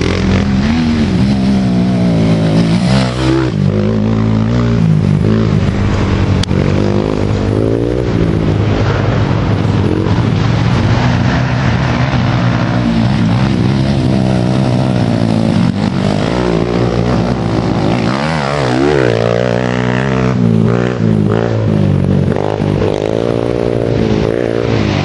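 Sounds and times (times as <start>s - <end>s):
quad engines revving: 0.0s - 25.0s.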